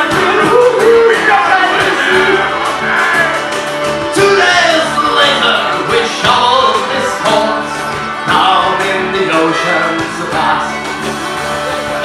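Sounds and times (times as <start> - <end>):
people singing: 0.0 - 11.2
folk band playing: 0.0 - 12.0.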